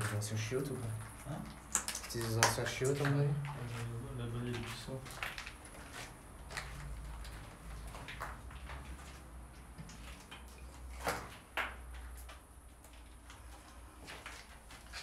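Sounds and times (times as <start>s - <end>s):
footsteps on debris-strewn floor: 0.8s - 15.0s.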